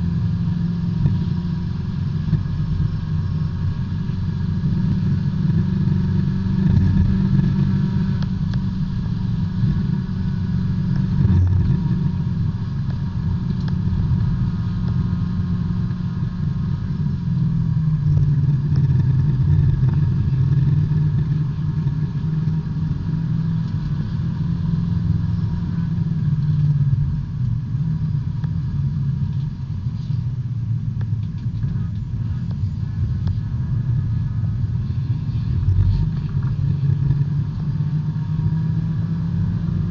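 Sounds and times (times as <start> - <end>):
race car engine from inside cabin: 0.0 - 39.9.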